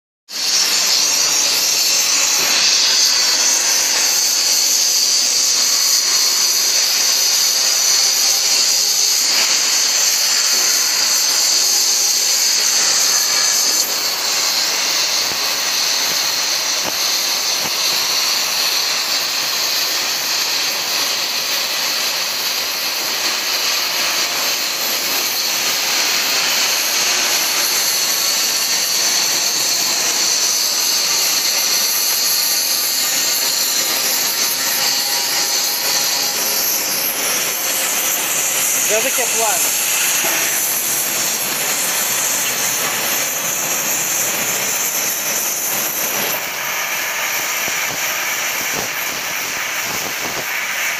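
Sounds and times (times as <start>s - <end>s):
cutting torch hissing: 0.3s - 50.9s.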